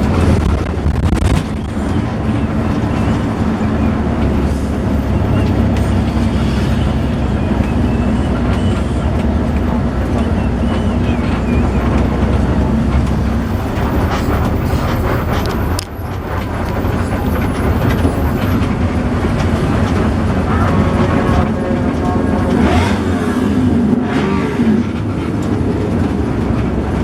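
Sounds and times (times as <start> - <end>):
bus engine and road noise: 0.0 - 27.0.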